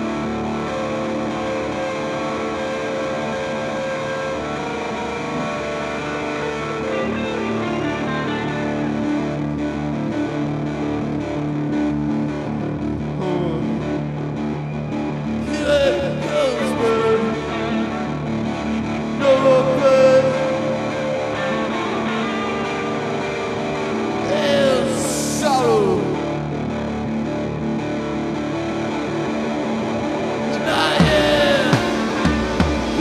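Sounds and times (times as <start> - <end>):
rock band playing: 0.0 - 12.6, 14.9 - 33.0
distorted electric guitar: 0.0 - 33.0.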